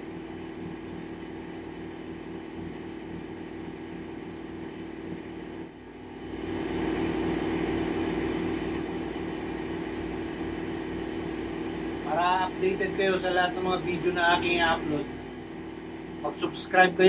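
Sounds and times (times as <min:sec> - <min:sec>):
mechanical hum with low throb: 0:00.0 - 0:17.0.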